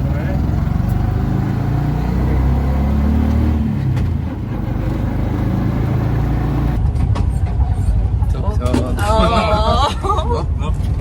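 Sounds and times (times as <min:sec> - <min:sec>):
auto-rickshaw engine running: 0:00.0 - 0:09.2.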